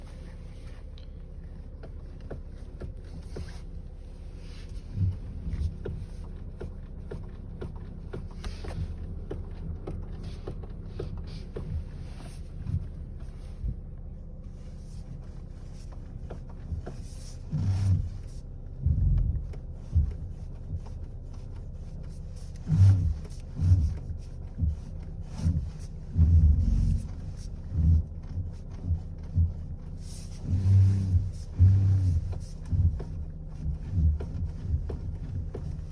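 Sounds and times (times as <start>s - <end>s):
car engine hum: 0.0s - 35.9s
steering column knocking: 4.8s - 13.8s, 15.2s - 35.9s.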